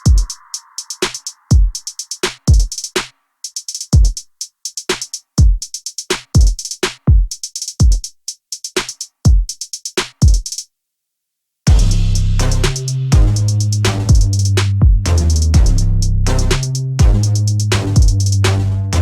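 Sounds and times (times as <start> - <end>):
drum machine beat: 0.0 - 10.6, 11.7 - 19.0.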